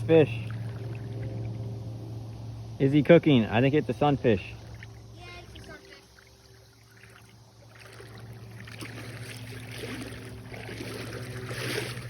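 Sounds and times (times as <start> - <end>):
creek water trickling: 0.0 - 12.0
steady low hum: 0.0 - 12.0.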